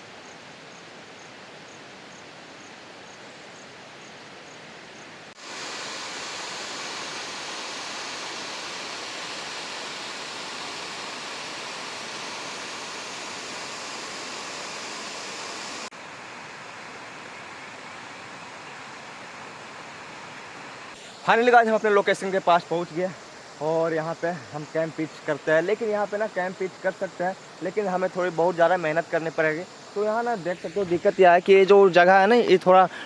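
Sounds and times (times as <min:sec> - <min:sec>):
waterfall rushing: 0:05.3 - 0:33.0.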